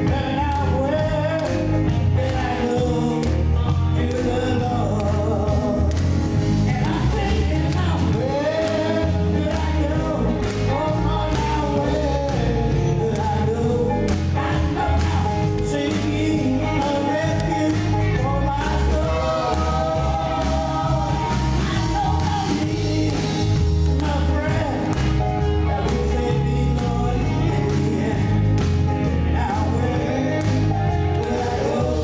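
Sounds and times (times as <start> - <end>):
electric and acoustic guitars: 0.0 - 32.0
electric bass: 0.0 - 32.0
man singing into microphone: 0.0 - 32.0.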